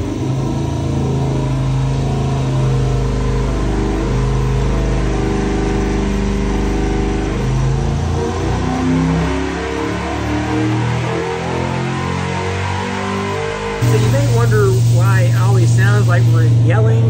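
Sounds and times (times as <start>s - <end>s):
engine running on dynamometer: 0.0s - 17.0s.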